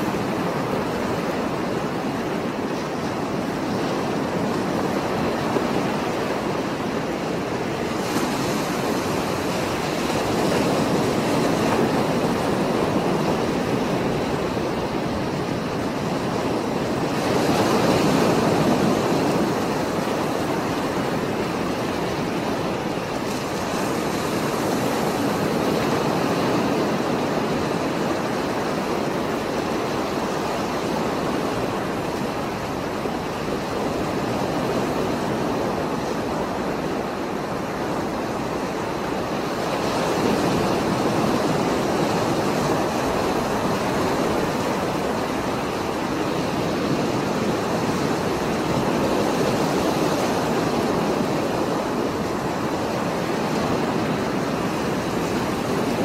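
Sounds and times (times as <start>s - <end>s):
surf breaking on rocky shore: 0.0s - 56.0s.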